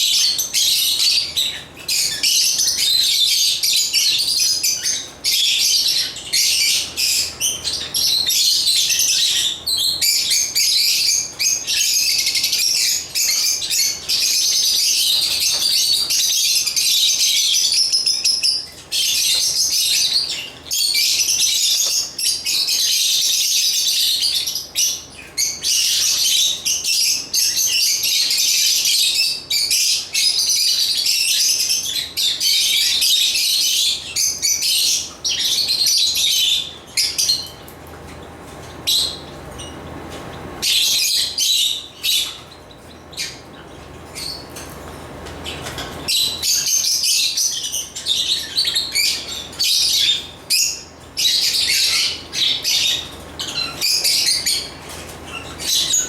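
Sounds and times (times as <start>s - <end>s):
lovebirds chirping and chattering: 0.0s - 56.0s.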